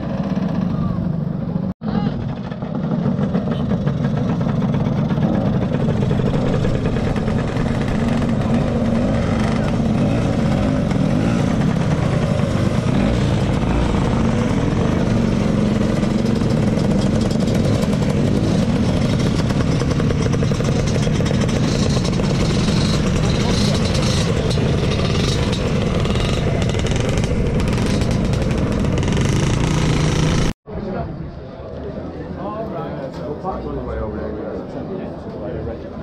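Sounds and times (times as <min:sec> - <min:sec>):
crowd voices: 0:00.0 - 0:26.8, 0:30.7 - 0:36.0
scooter engines passing: 0:00.0 - 0:36.0.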